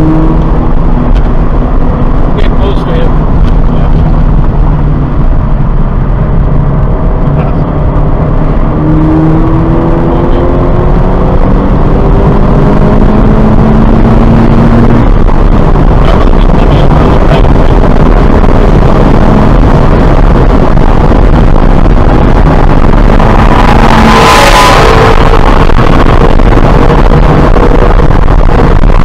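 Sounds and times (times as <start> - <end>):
car engine accelerating: 0.0 - 29.0
wind and road noise: 0.0 - 29.0.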